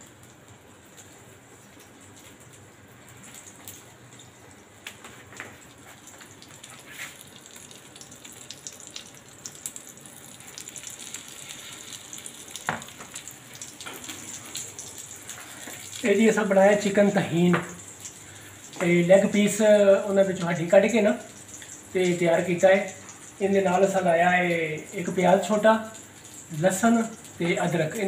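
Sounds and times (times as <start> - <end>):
chicken sizzling in hot oil: 4.2 - 28.0.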